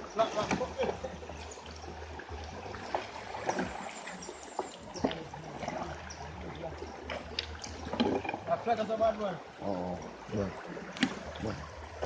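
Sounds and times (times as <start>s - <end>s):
river water trickling and splashing: 0.0s - 12.0s.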